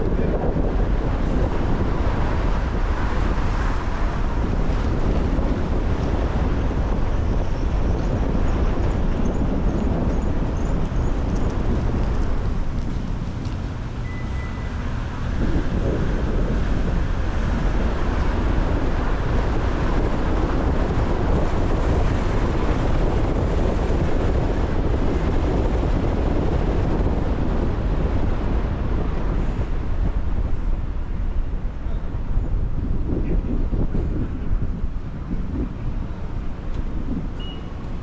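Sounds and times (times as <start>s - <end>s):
car tyres on wet road: 0.0s - 38.0s.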